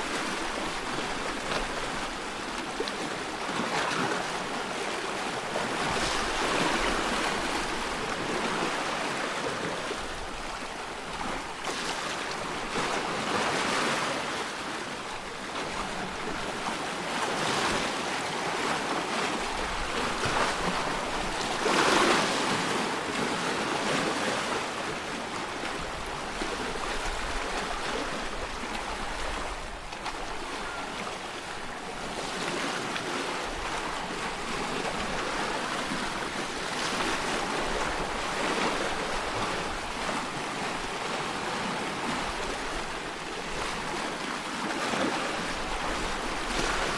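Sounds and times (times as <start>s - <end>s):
sea waves breaking on rocks: 0.0s - 46.9s.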